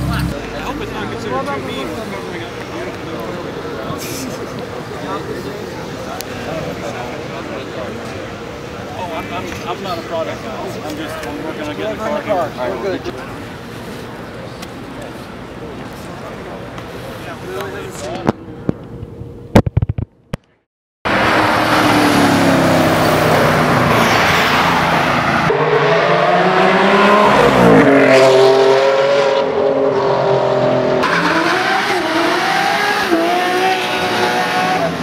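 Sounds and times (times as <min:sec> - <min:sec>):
car engines revving: 0:00.0 - 0:18.4, 0:21.1 - 0:35.0.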